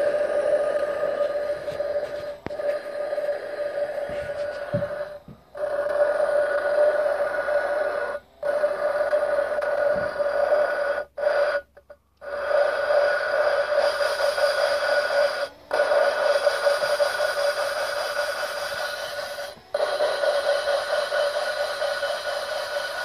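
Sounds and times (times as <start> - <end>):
electric drill motor whining: 0.0 - 23.0.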